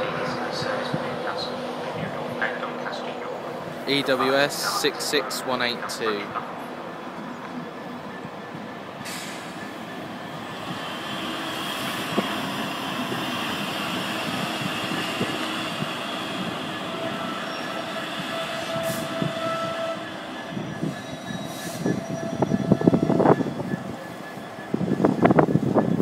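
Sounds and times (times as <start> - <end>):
freight train wagons rumbling: 0.0 - 26.0.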